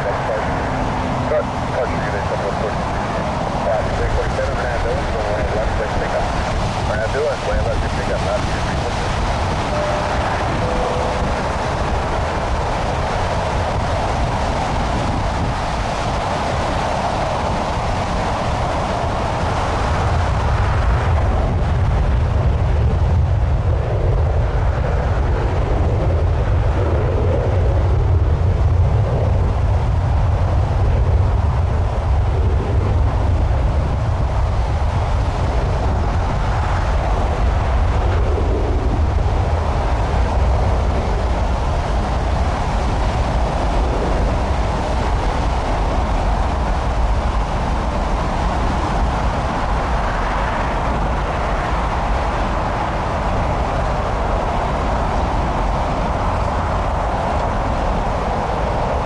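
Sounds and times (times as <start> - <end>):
broad wind roar: 0.0 - 59.0
wind buffeting microphone: 0.0 - 59.0.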